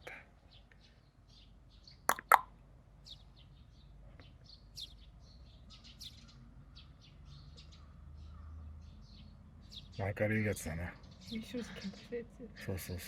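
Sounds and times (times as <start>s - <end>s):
high chirping calls: 1.8s - 13.0s.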